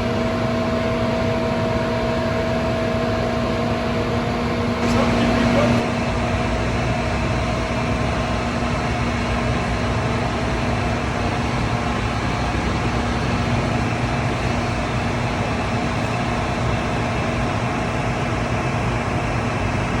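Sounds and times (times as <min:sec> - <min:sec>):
machine humming with steady tones: 0:00.0 - 0:20.0.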